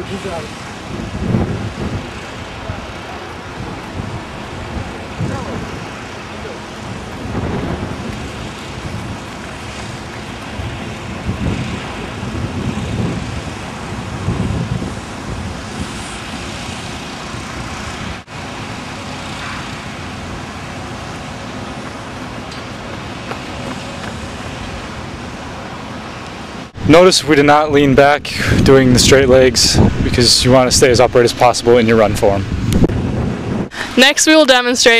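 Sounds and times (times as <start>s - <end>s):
low rumbling: 0.0s - 33.9s
outdoor background noise: 0.0s - 34.9s.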